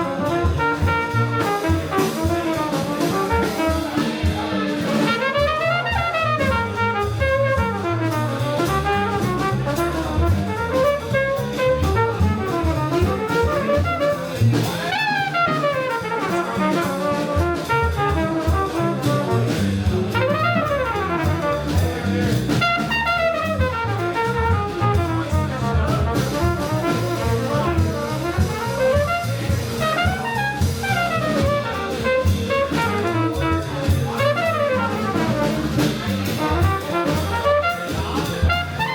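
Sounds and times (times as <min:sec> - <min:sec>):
brass horn soloing: 0:00.0 - 0:38.9
drum kit: 0:00.0 - 0:38.9
walking bass: 0:00.0 - 0:38.9.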